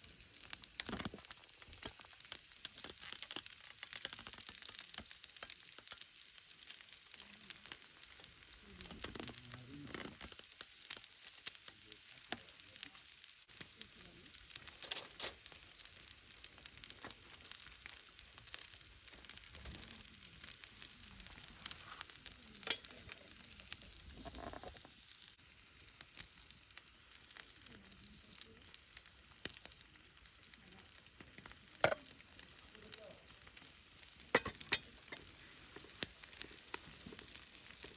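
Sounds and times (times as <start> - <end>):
fire crackling and popping: 0.0 - 37.9
fire sizzling hiss: 0.0 - 37.9.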